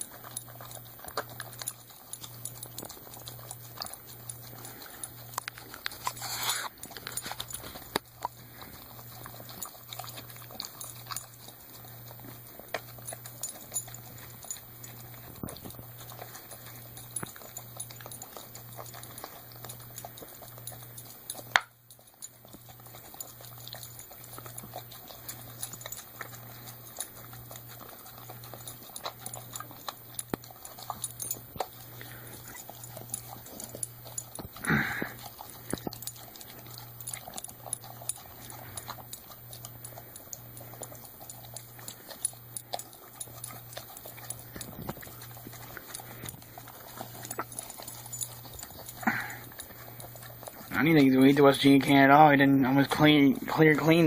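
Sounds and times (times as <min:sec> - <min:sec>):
dog licking metal cans: 0:00.0 - 0:54.0.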